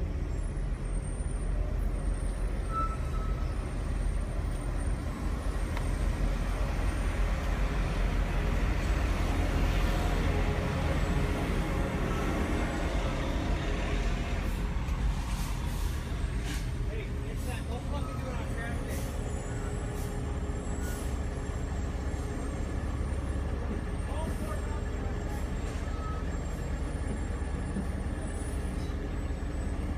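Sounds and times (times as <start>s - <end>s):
diesel truck engine rumbling: 0.0s - 29.9s
idling traffic: 0.0s - 29.9s.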